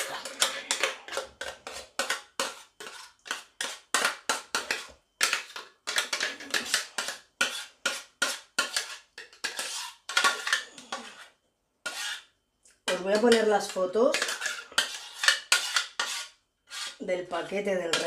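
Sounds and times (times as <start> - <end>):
utensil scraping a pot: 0.0 - 18.0.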